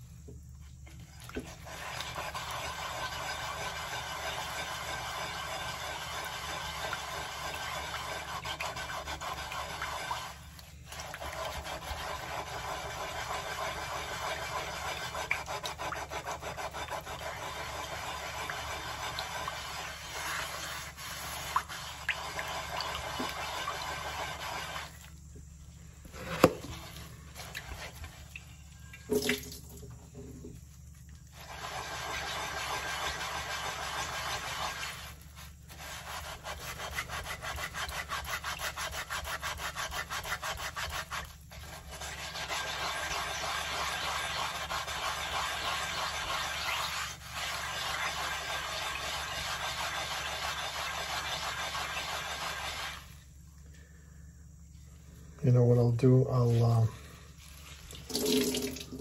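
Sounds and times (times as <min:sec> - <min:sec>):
sponge scrubbing clay pan: 0:00.8 - 0:53.4, 0:55.4 - 0:59.0.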